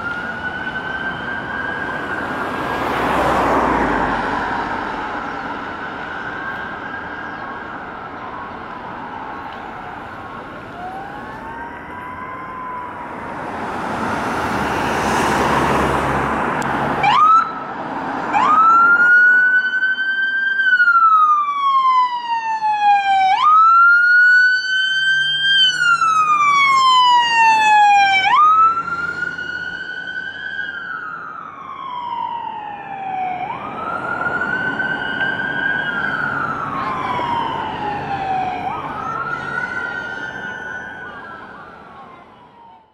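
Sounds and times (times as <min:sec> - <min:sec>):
ambulance siren wailing: 0:00.0 - 0:42.9
distant siren: 0:00.0 - 0:42.9
traffic noise: 0:00.0 - 0:42.9.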